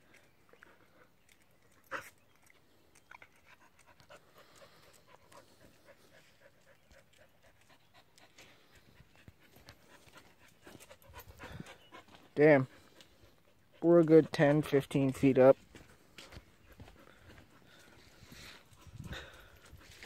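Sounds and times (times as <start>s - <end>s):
dog panting: 0.5s - 20.0s.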